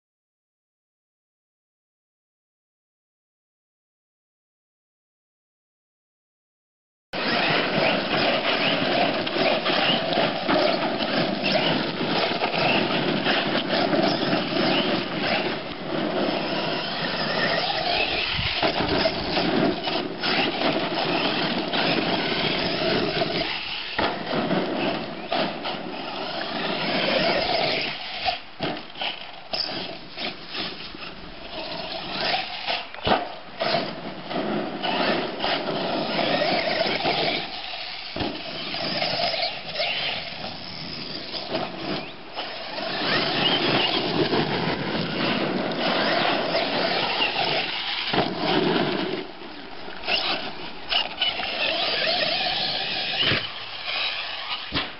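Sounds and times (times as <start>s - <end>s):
tyres churning gravel: 7.2s - 54.9s.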